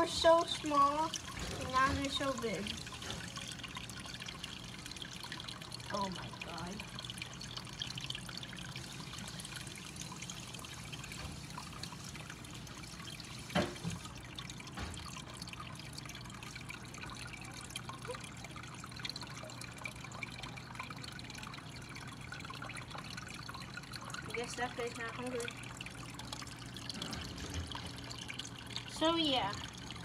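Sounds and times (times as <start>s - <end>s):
low steady hum: 0.0s - 30.0s
water trickling in a tank: 0.0s - 30.0s.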